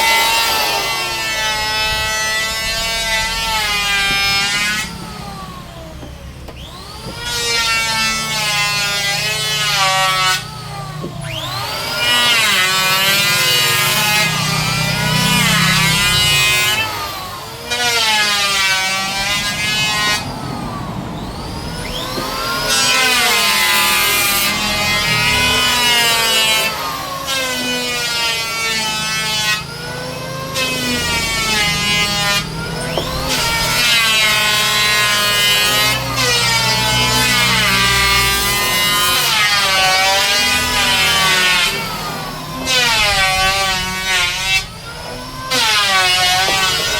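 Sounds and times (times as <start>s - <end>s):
power tool cutting wood: 0.0s - 46.9s.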